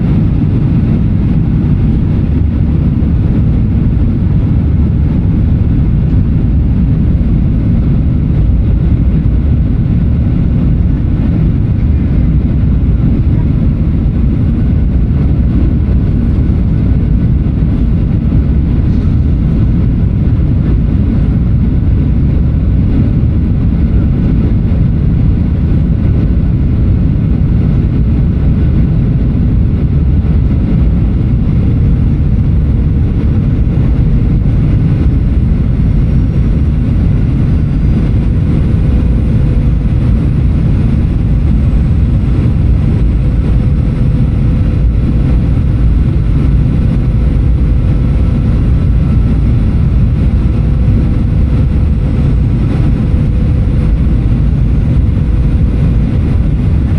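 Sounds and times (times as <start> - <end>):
airflow rushing past fuselage: 0.0 - 56.9
jet engine hum in cabin: 0.0 - 56.9.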